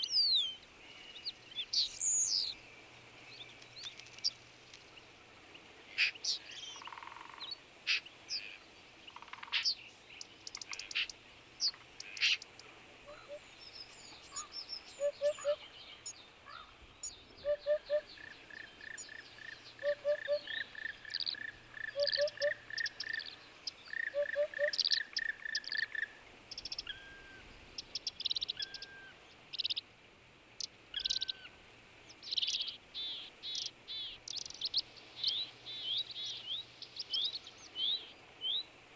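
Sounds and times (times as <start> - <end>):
birds chirping and trilling: 0.0 - 29.9, 30.6 - 31.5, 32.1 - 38.8.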